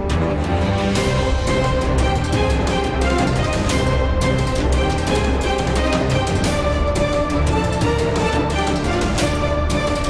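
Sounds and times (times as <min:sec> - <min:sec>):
sustained music tones: 0:00.0 - 0:10.0
steady drum beat: 0:00.2 - 0:10.0.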